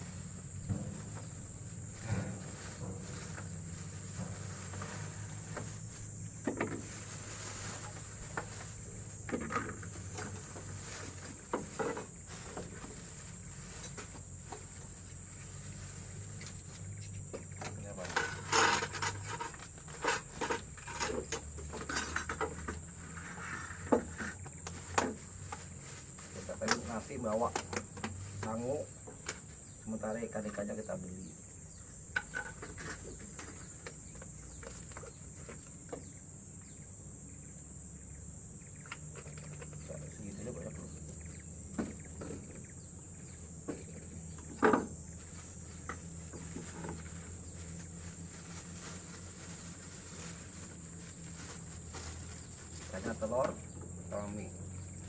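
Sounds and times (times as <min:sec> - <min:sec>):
knocks and rustles: 0:00.0 - 0:37.0, 0:38.4 - 0:55.0
high-pitched insect drone: 0:00.0 - 0:55.0.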